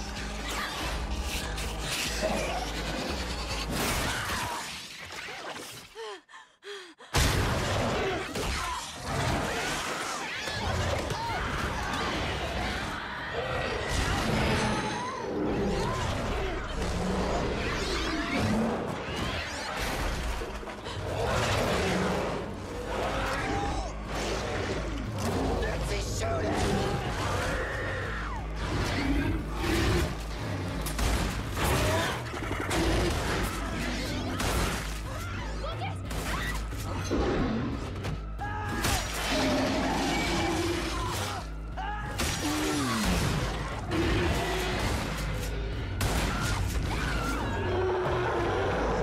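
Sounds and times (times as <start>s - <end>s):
music: 0.0s - 4.7s, 7.5s - 49.0s
people shouting and screaming: 0.0s - 5.0s, 7.6s - 25.0s, 25.6s - 30.2s, 31.6s - 49.0s
film score: 0.0s - 49.0s.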